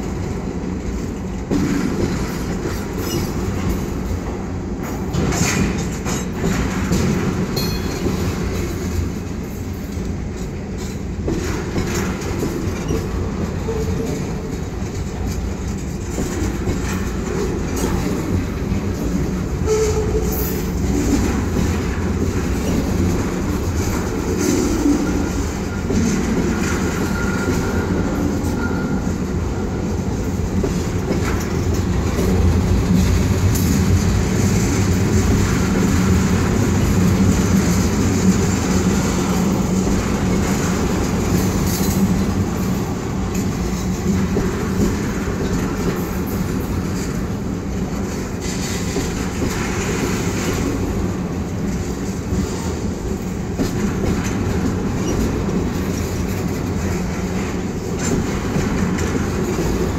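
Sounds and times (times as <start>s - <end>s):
train wheel clacks: 0.0s - 59.9s
train wheels rumbling on rail: 0.0s - 59.9s.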